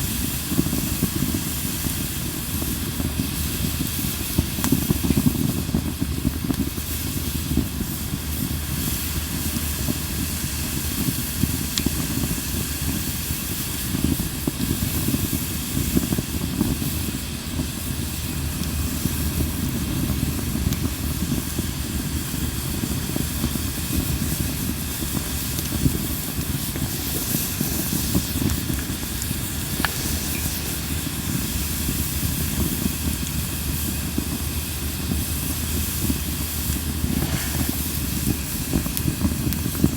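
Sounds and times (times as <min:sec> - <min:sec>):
campfire burning with hissing rush: 0:00.0 - 0:39.9
fire crackles: 0:00.0 - 0:39.9.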